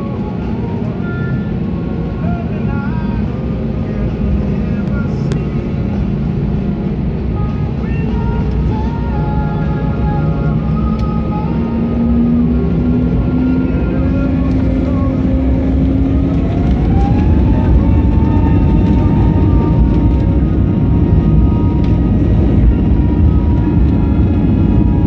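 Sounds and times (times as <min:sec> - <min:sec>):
jet engines rumbling and whining: 0:00.0 - 0:25.0.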